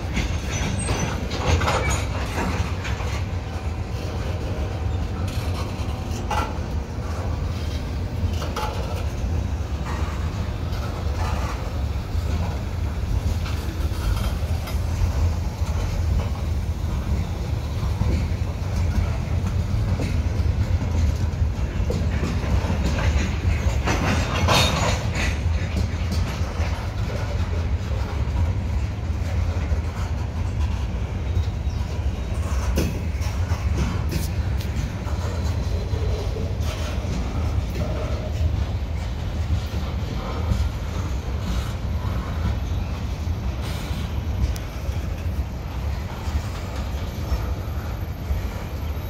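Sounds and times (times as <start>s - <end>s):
freight train wheels rumbling: 0.0s - 49.0s
train clicks and clanks: 0.0s - 49.0s.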